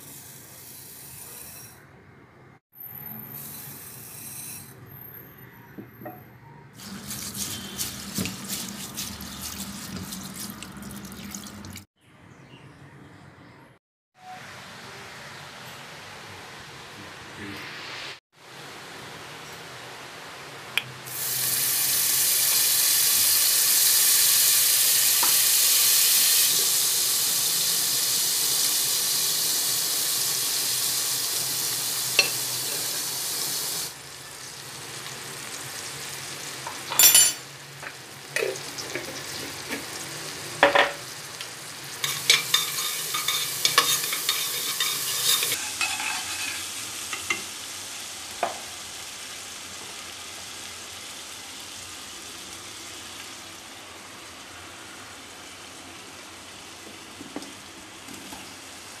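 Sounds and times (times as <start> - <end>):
oil sizzling in a pot: 0.0 - 1.8, 6.8 - 11.9, 17.8 - 59.0.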